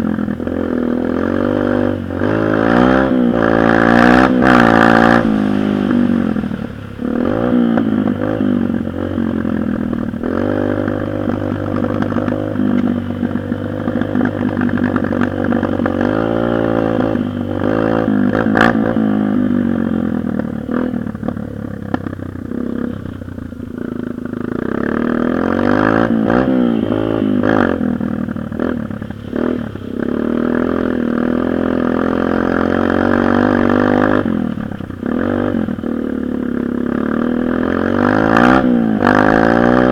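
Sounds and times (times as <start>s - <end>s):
dirt bike engine revving: 0.0s - 21.4s, 23.8s - 39.9s.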